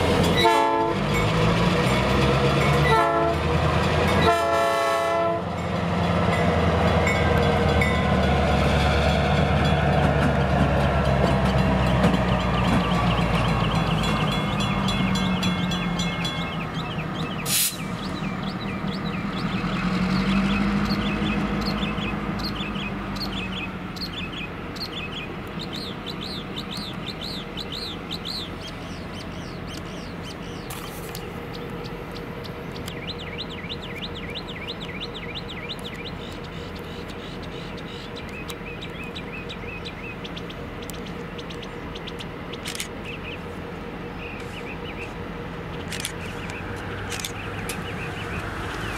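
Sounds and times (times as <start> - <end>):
diesel locomotive engine: 0.0 - 48.9
birds chirping: 9.6 - 48.9.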